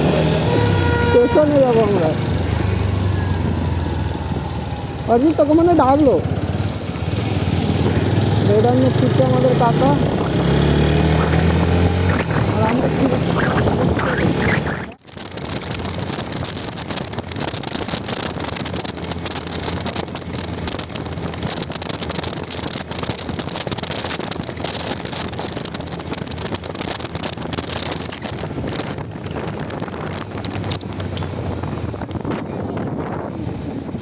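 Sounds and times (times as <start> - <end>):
motorcycle engine running: 0.0 - 34.0
wind rushing over microphone: 0.0 - 34.0.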